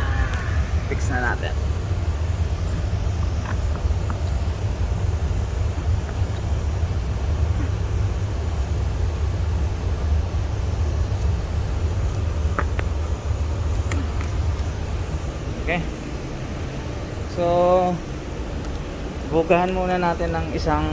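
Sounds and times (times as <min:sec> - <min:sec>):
low machine rumble: 0:00.0 - 0:20.9.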